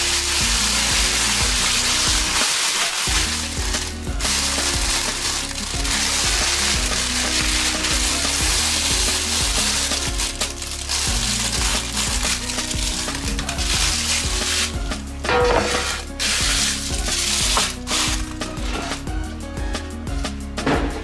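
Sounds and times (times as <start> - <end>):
food sizzling in a pan: 0.0 - 19.0
soft background music: 0.0 - 21.0.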